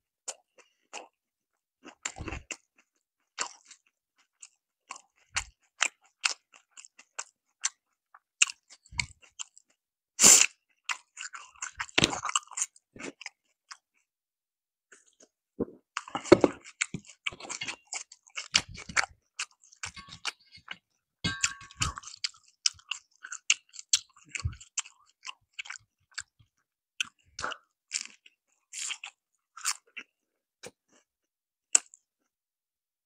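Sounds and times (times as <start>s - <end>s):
chewing crispy fried chicken: 0.2s - 14.1s, 14.9s - 21.0s, 21.7s - 32.4s.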